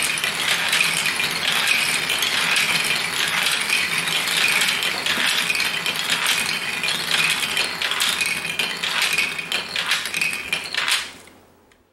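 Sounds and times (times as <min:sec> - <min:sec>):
ringing rolling tone: 0:00.0 - 0:11.0
marbles clattering on plastic track: 0:00.0 - 0:11.3.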